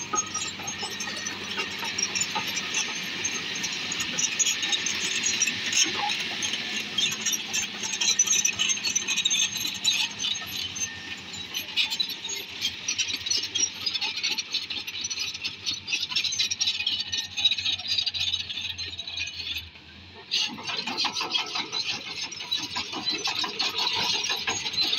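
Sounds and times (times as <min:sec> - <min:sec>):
bulldozer engine hum: 0:00.0 - 0:24.9
bulldozer rattling clatter: 0:00.0 - 0:24.9.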